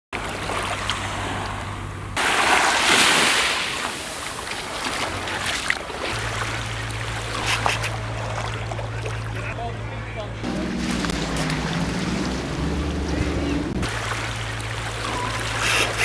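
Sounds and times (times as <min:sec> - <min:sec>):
sea waves: 0:00.1 - 0:16.0
low steady hum: 0:00.2 - 0:02.6, 0:03.8 - 0:16.0.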